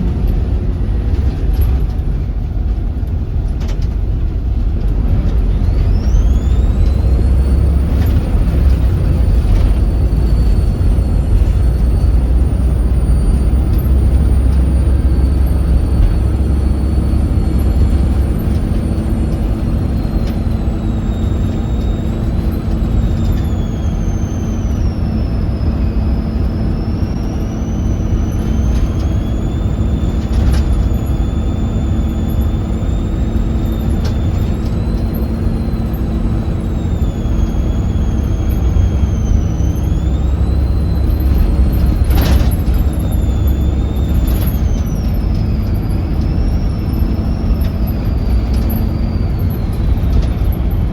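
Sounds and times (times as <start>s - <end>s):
diesel bus engine rumble: 0.0s - 50.9s
turbo whistle: 5.7s - 50.9s.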